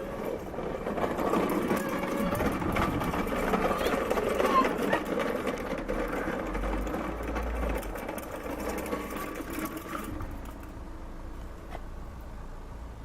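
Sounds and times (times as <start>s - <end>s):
rapid mechanical clatter: 0.0s - 10.8s.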